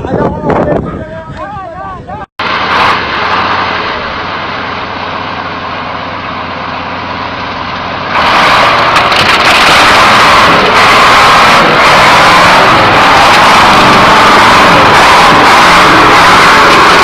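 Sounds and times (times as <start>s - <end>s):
heavy vehicle engine running: 2.4s - 17.0s.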